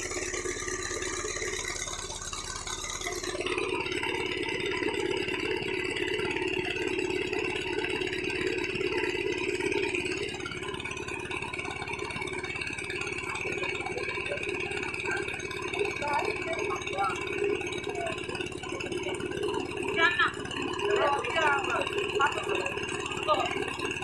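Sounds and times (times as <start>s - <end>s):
rattle: 0.0s - 24.0s
small engine running: 0.0s - 24.0s.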